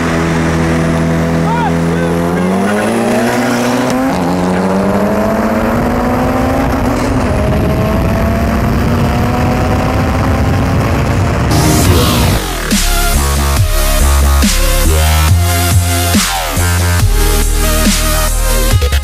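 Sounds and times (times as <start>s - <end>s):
wind and road noise: 0.0s - 18.7s
car engine revving: 0.0s - 19.0s.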